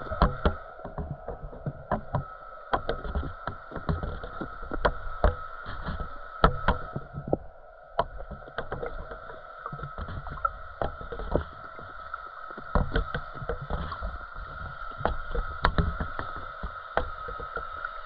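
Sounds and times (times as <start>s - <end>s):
low rumble of water: 0.0s - 18.0s
steady high hum: 0.0s - 18.0s
underwater clicks and knocks: 0.0s - 18.0s.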